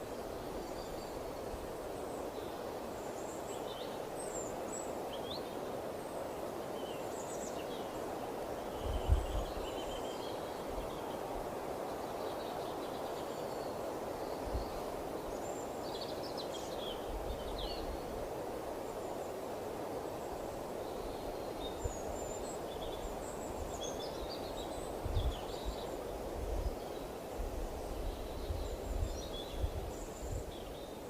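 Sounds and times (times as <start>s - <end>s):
small birds chirping: 0.0s - 19.4s, 20.1s - 31.0s
wind: 0.0s - 31.0s.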